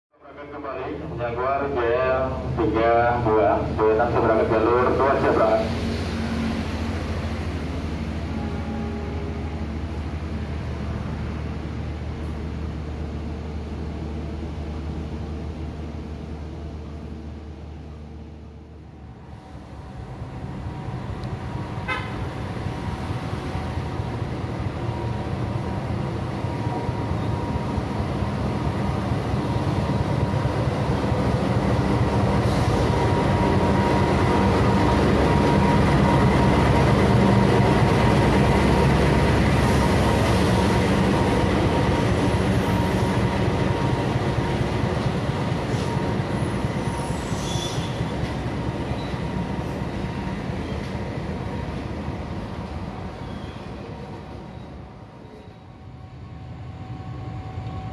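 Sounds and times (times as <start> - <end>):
diesel locomotive engine: 0.2 - 57.9
train coaches rumbling on rails: 0.3 - 57.9.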